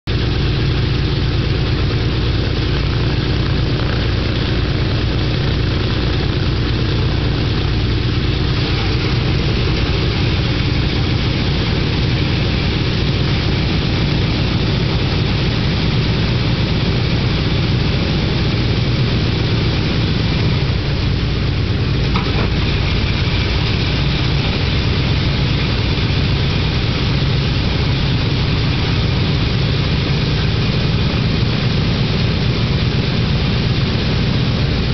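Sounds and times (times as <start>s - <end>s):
radial aircraft engines droning: 0.1s - 34.9s.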